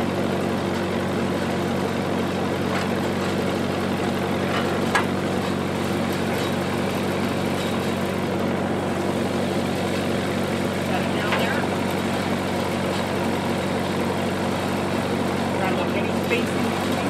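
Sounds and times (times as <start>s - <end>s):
generator running: 0.0s - 17.0s.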